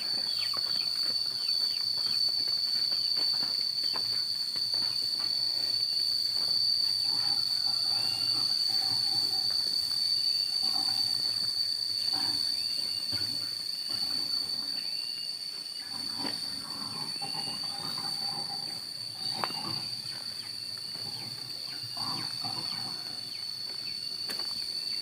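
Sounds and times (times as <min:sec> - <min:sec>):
faint chirps: 0:00.0 - 0:25.0
insect chorus: 0:00.0 - 0:25.0.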